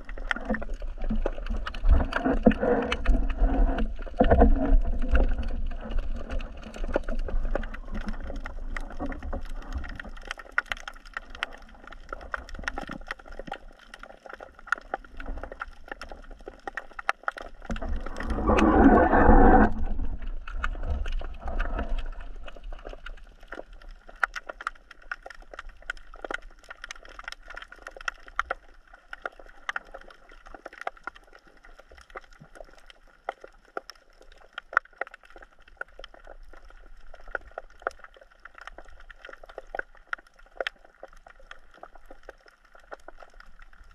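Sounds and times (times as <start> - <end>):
crackle of sharp underwater clicks: 0.0 - 43.9
low rumble of moving water: 0.0 - 43.9.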